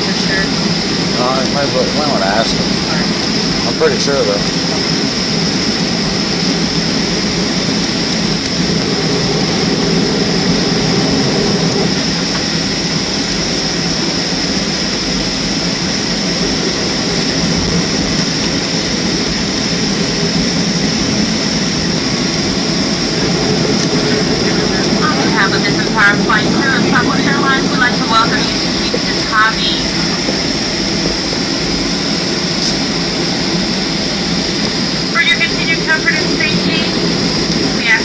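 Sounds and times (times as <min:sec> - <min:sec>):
airliner cabin engine rumble: 0:00.0 - 0:38.0.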